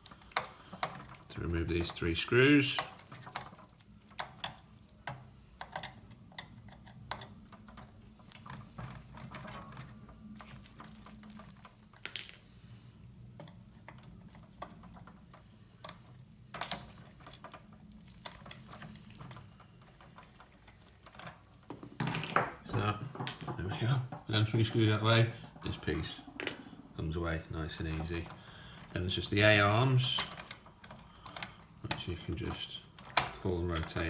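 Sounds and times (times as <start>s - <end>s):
small plastic parts knocking: 0.0s - 12.5s, 13.3s - 34.0s.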